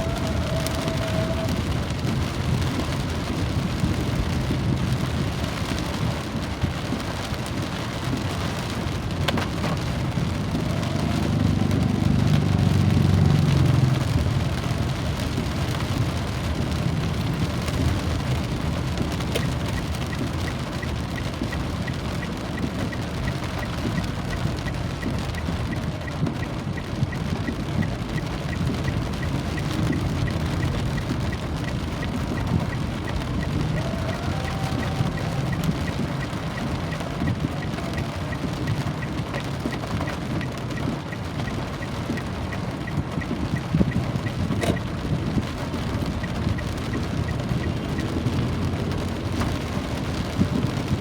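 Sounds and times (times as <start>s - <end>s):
low rumble: 0.0s - 51.0s
steady rain falling: 0.0s - 51.0s.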